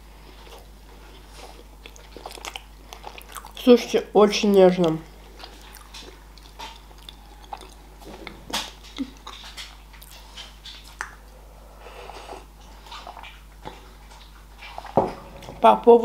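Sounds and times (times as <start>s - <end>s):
person chewing with wet smacks: 0.2s - 11.5s, 12.1s - 15.2s.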